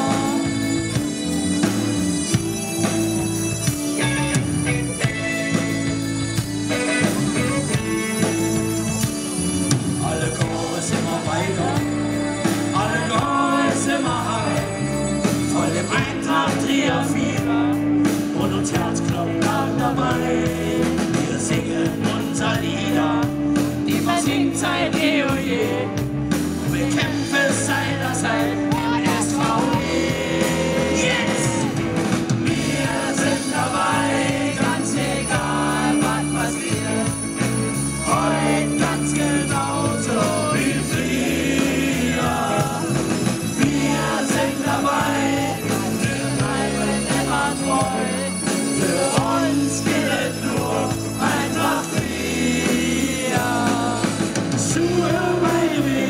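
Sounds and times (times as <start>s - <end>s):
men singing together: 0.0s - 1.2s, 9.9s - 56.0s
live band music: 0.0s - 56.0s.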